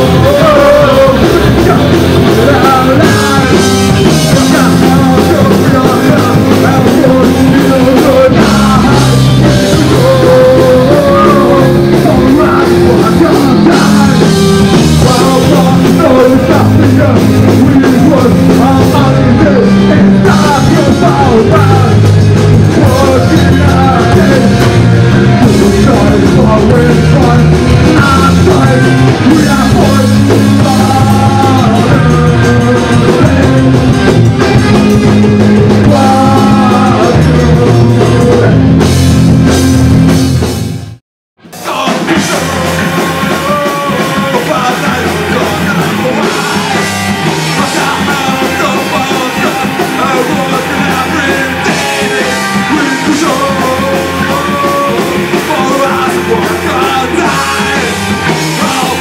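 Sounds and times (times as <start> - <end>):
person singing: 0.0 - 39.0, 41.5 - 59.0
bass guitar: 0.0 - 59.0
drum kit: 0.0 - 59.0
electric guitar: 0.0 - 59.0.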